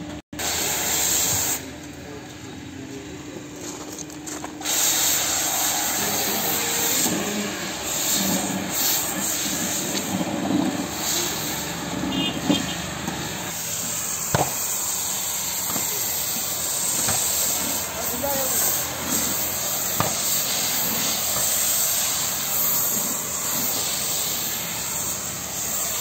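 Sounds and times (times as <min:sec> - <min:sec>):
foam lance spraying hiss: 0:00.4 - 0:01.7, 0:04.6 - 0:12.6, 0:13.4 - 0:26.0.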